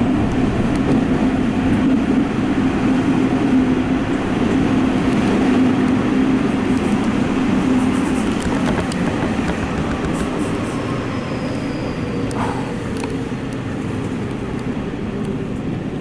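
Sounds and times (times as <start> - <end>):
subway train running: 0.0 - 16.0.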